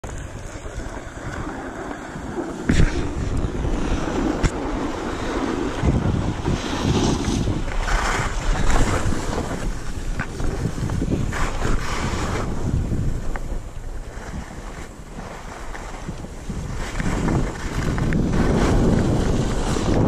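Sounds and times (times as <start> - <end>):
wind buffeting microphone: 0.0 - 20.0
skis scraping over snow: 0.1 - 20.0.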